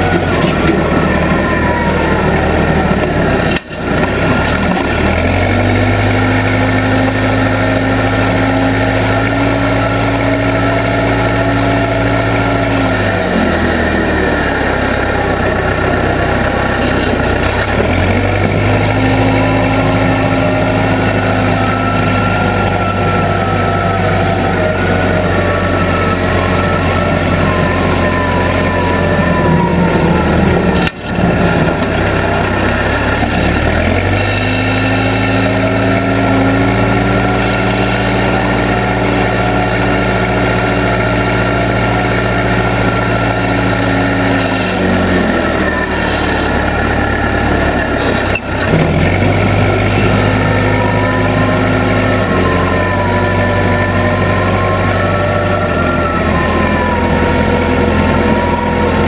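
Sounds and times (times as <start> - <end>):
backhoe engine running: 0.0 - 59.0
wavering high whine: 0.0 - 59.0.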